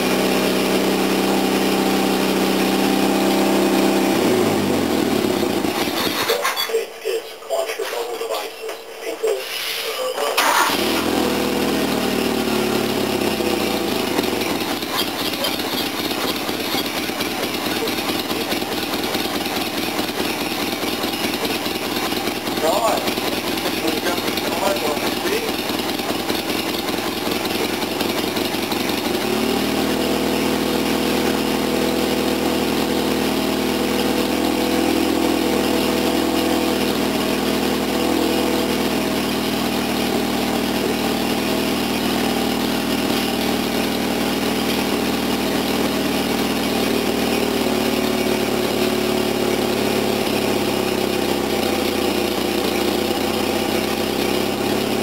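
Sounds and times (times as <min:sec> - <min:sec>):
car engine running: 0:00.0 - 0:07.2, 0:10.2 - 0:55.0.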